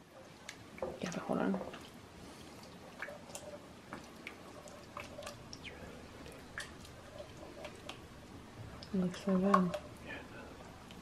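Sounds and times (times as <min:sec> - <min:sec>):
wet squishing of stirred sauce: 0:00.0 - 0:11.0.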